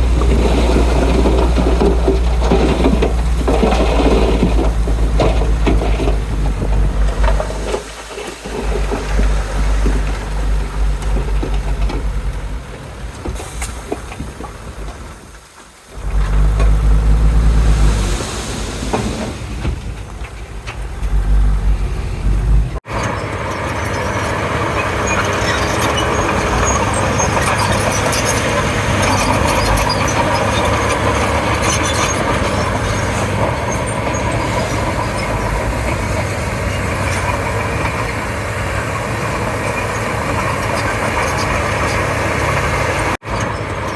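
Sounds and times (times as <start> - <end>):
bulldozer diesel engine rumbling: 0.0 - 43.9.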